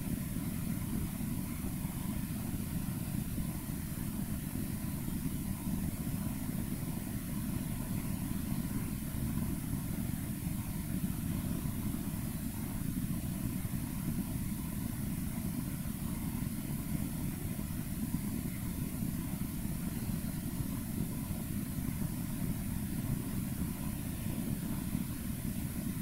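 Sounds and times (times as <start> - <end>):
low room rumble: 0.0 - 26.0.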